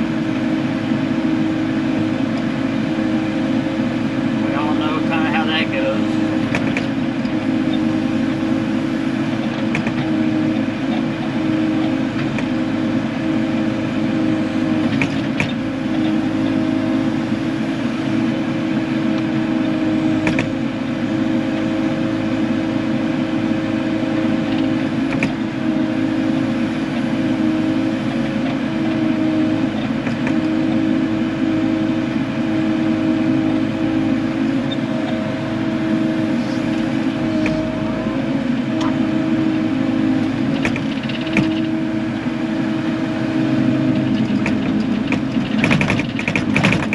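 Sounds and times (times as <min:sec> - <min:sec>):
excavator diesel engine running: 0:00.0 - 0:46.9
hydraulics working: 0:00.0 - 0:46.9.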